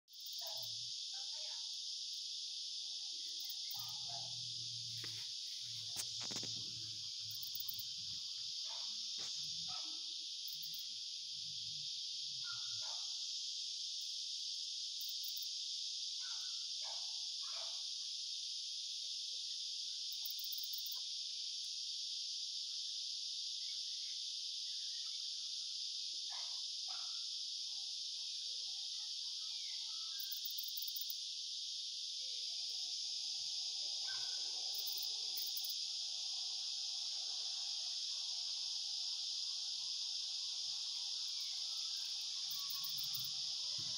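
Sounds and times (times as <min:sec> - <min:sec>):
insects singing: 0:00.1 - 0:43.9.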